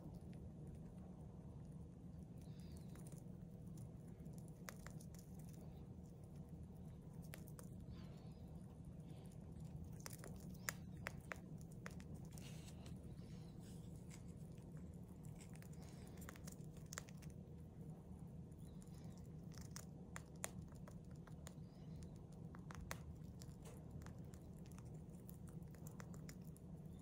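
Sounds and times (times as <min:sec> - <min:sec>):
hamster crunching popcorn: 0:00.0 - 0:27.0
steady low hum: 0:00.0 - 0:27.0.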